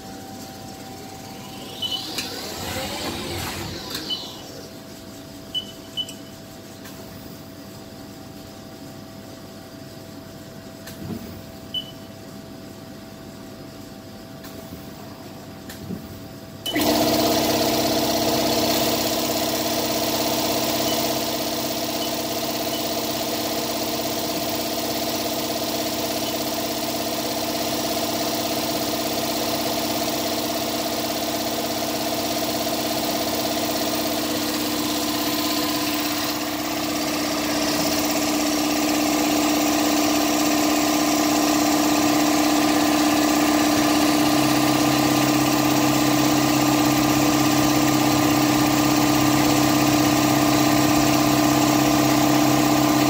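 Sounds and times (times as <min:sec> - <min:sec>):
lathe mechanical hum: 0:00.0 - 0:11.7, 0:14.9 - 0:53.0.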